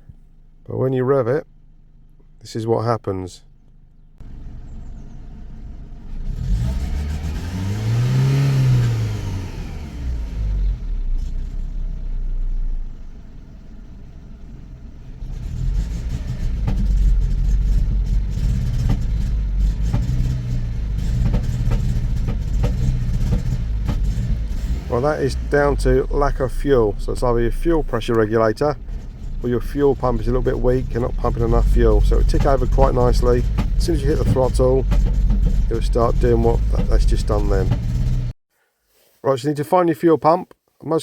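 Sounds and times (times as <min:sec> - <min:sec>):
car engine revving and misfiring: 0:04.2 - 0:38.4.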